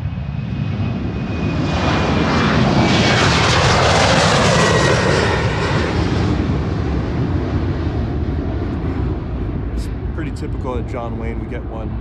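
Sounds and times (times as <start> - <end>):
jet engine roar and whine: 0.0 - 12.0.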